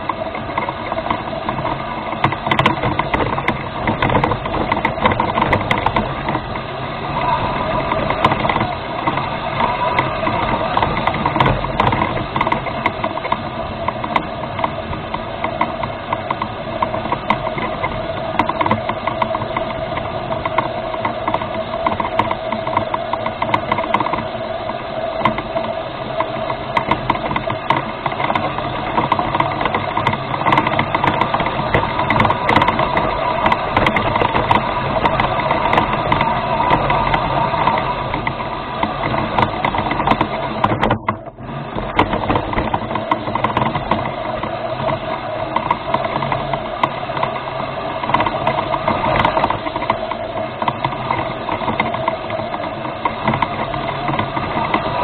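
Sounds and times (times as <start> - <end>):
clicks and rattles: 0.0 - 55.0
electric motors whining: 0.0 - 55.0.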